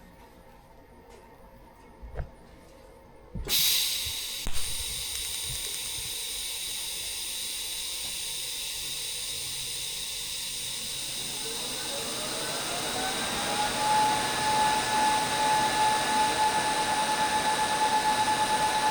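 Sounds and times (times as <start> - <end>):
welding arc hissing: 3.5 - 18.9.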